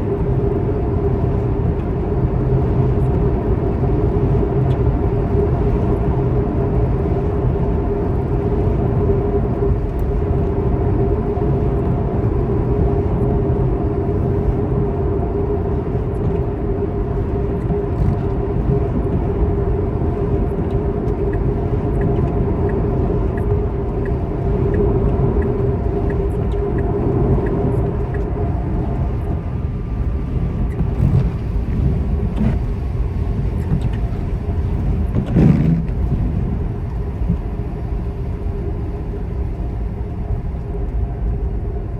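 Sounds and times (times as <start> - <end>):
road vehicle rumbling: 0.0 - 41.9.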